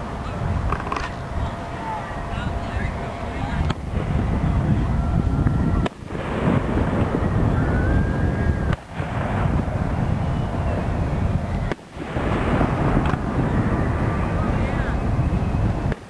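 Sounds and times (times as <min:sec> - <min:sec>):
steady low rumble: 0:00.0 - 0:16.0
fireworks booming: 0:02.5 - 0:16.0.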